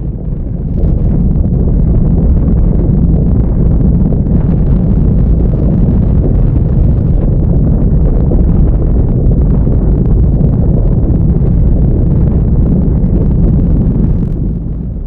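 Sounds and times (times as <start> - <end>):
low rumbling wind: 0.0 - 15.0.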